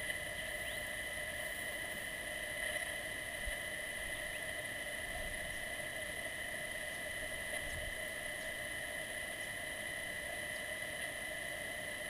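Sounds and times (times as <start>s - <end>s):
drone electronics whine: 0.0s - 12.0s
soft hiss: 0.0s - 12.0s.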